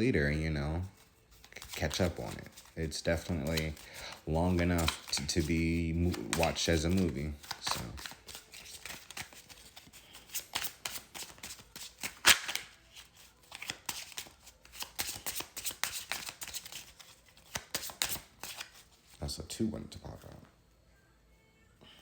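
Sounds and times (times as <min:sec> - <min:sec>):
cards being shuffled: 0:00.8 - 0:19.2.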